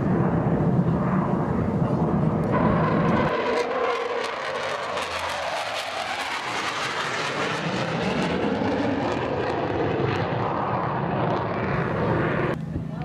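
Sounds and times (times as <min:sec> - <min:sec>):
jet aircraft roar: 0:00.0 - 0:13.0.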